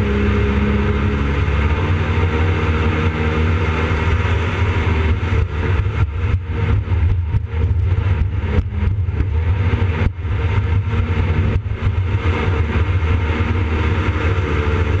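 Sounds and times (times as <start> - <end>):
jet boat engine running: 0.0 - 15.0.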